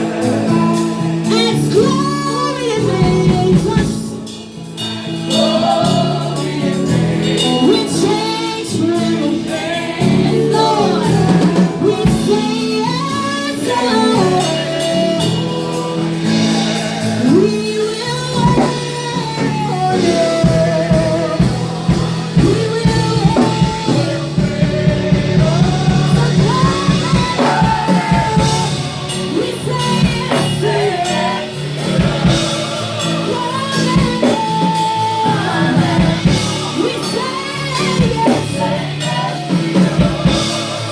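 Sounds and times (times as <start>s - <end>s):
gospel band playing: 0.0s - 40.9s.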